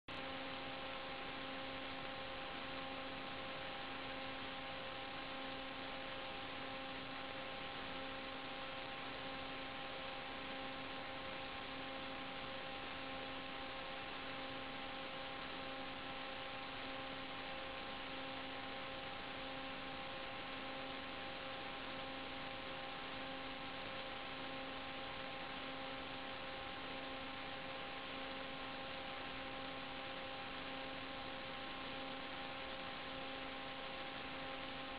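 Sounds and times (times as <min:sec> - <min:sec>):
electronic hiss: 0:00.1 - 0:34.9
multi-tone hum: 0:00.1 - 0:34.9.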